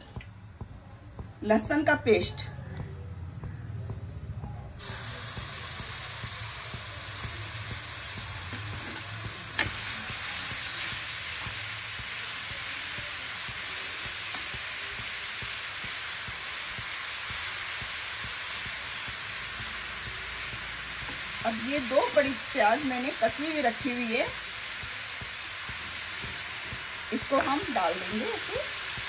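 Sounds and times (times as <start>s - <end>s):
garlic paste sizzling in hot oil: 4.8s - 29.0s.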